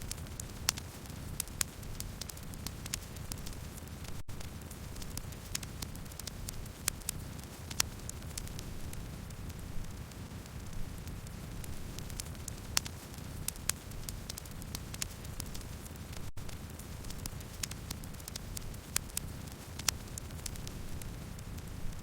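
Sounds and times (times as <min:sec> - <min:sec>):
burning wood crackling and popping: 0:00.0 - 0:22.0
low rumble of flames: 0:00.0 - 0:22.0.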